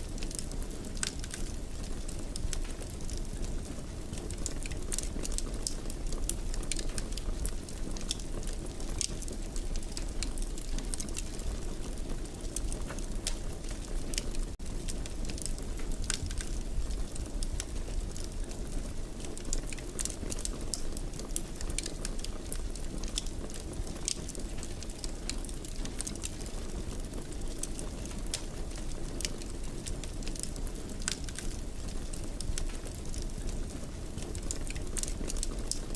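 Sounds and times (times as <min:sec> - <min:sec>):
fireplace fire crackling: 0:00.0 - 0:35.9.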